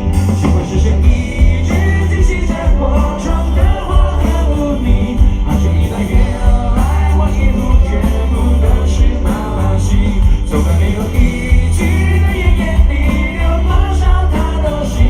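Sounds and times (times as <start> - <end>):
lead vocal singing: 0.0 - 15.0
rock band playing live: 0.0 - 15.0.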